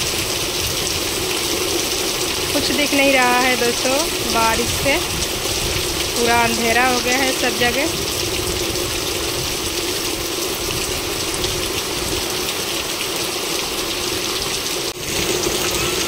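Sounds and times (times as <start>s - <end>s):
heavy rain on metal roofs: 0.0s - 16.0s.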